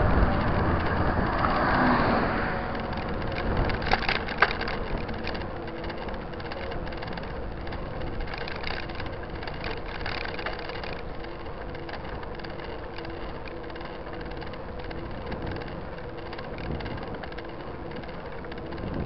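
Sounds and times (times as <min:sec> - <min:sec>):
small rattling clicks: 0:00.0 - 0:01.6, 0:02.6 - 0:19.0
bicycle tyres rolling on asphalt: 0:00.0 - 0:19.0.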